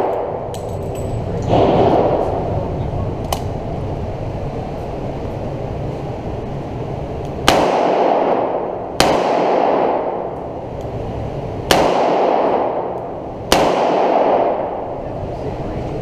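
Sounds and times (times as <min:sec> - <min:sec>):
revolver shots echoing indoors: 0:00.0 - 0:04.4, 0:06.7 - 0:15.3.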